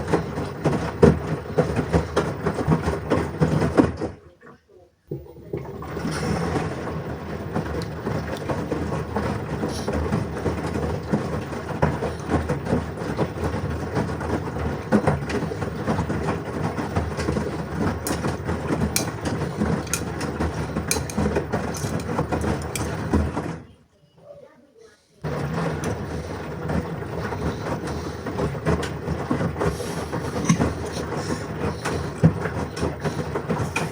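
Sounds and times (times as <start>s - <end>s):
washing machine drum rumbling: 0.0s - 4.2s, 5.1s - 23.7s, 25.2s - 33.9s.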